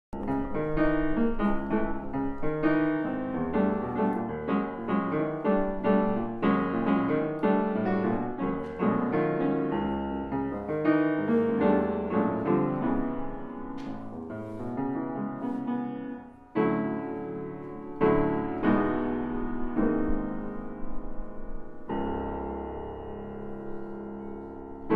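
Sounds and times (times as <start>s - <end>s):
grand piano playing: 0.1s - 24.9s.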